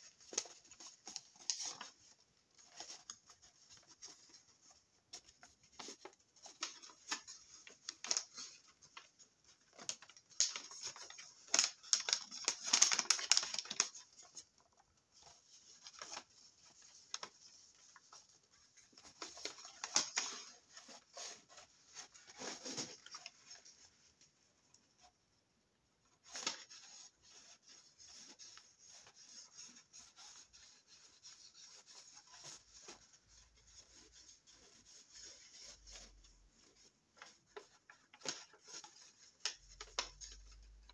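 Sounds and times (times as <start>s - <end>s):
paper crumpling: 0.0s - 23.9s, 26.2s - 40.9s.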